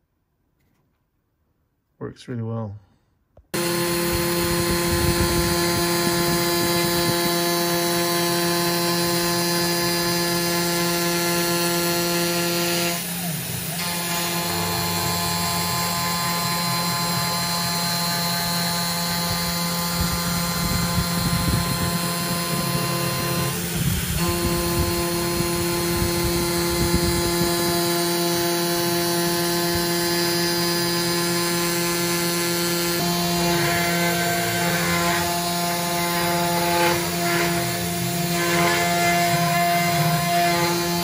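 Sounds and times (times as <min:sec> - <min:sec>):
cnc router spindle whine: 0:03.6 - 0:41.0
metal cutting noise: 0:03.6 - 0:41.0.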